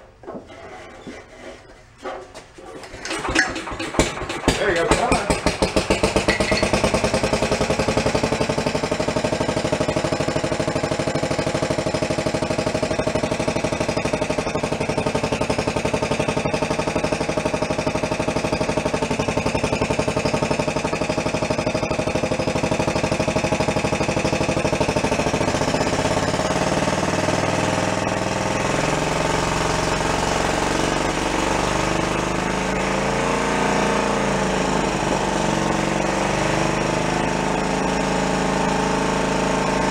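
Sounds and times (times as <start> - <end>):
single-cylinder engine running: 2.8 - 39.9.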